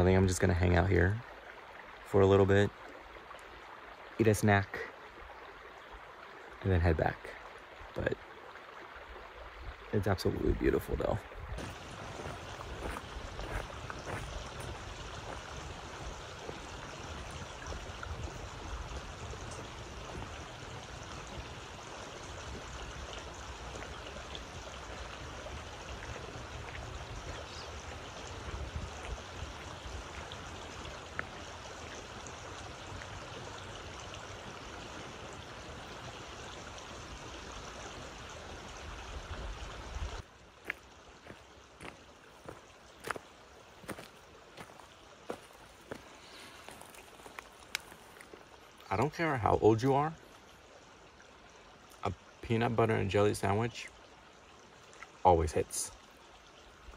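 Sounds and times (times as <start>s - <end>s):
mountain creek flowing: 0.0s - 56.9s.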